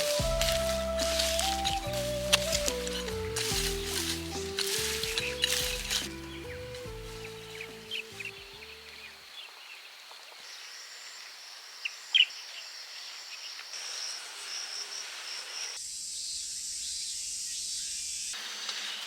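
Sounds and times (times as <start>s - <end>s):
bird chirps: 0.0s - 18.4s
insects chirping: 0.0s - 19.0s.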